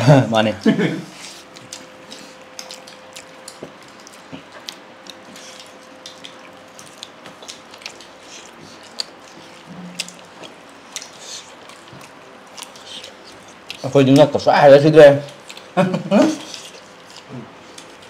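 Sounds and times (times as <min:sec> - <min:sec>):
faint steady hum: 0:00.0 - 0:18.0
chewing clicks and smacks: 0:01.5 - 0:14.4, 0:15.2 - 0:15.8, 0:16.4 - 0:18.0.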